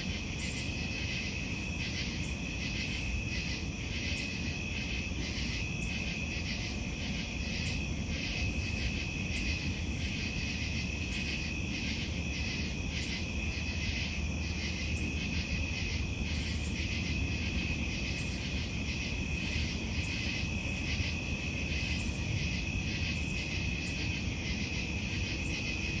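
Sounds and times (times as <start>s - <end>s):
frogs pulsing calls: 0.4s - 26.0s.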